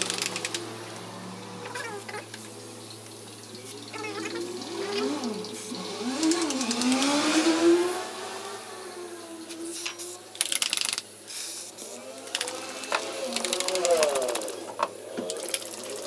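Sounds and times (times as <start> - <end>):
turbocharged engine revving: 0.0 - 10.4, 11.7 - 16.0.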